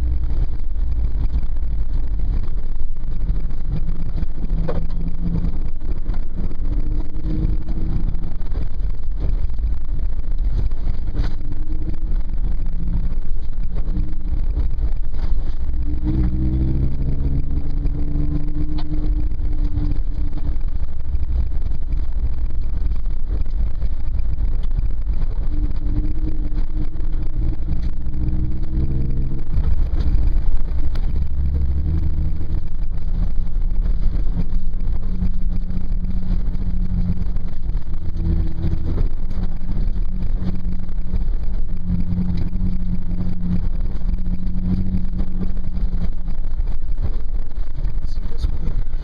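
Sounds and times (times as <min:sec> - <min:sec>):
vehicle engine rumble from inside: 0:00.0 - 0:49.0.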